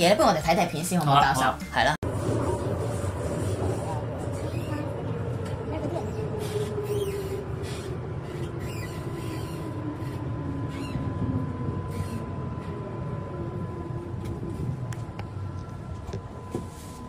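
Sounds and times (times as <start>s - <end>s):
train low rumble: 0.0s - 17.0s
train motor whine: 2.0s - 17.0s.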